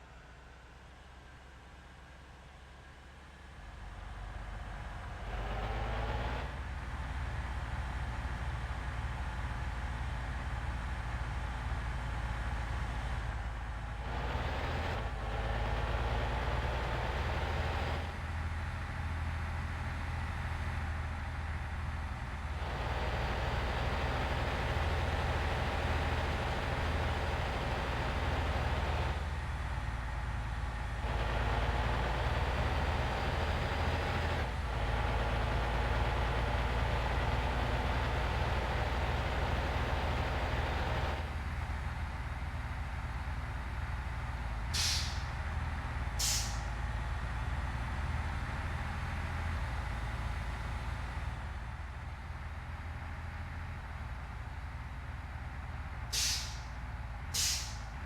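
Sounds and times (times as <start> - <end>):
heavy vehicle engine drone: 0.0 - 58.0
road noise: 3.6 - 58.0.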